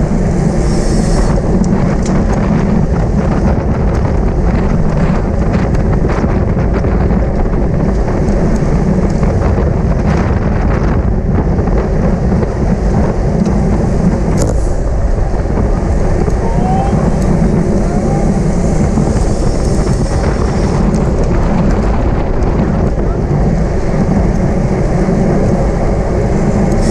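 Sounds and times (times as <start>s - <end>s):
road and tyre noise: 0.0s - 26.9s
wind buffeting microphone: 0.0s - 26.9s.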